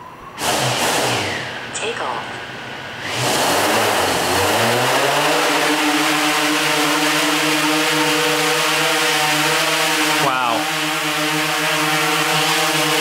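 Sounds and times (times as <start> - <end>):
drone motors and propellers spinning: 0.3 - 13.0.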